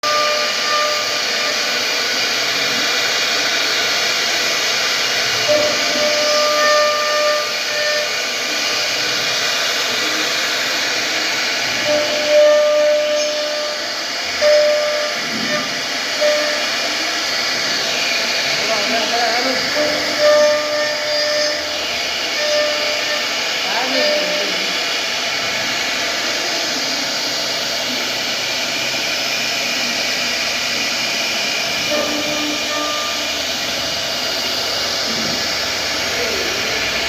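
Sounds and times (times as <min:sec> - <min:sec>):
hissing machine noise: 0:00.0 - 0:37.0
whining tone: 0:00.0 - 0:37.0.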